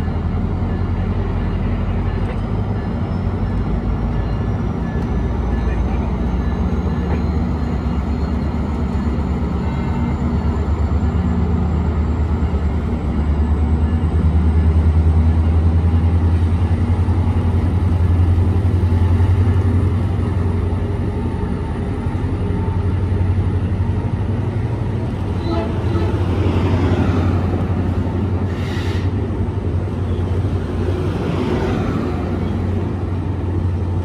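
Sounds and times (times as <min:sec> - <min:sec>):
diesel locomotive drone: 0:00.0 - 0:34.0
train coaches rolling by: 0:00.0 - 0:34.0.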